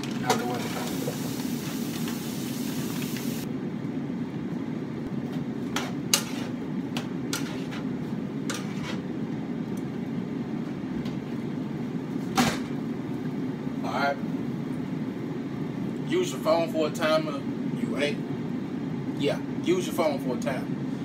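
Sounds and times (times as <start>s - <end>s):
air fryer humming: 0.0s - 21.0s.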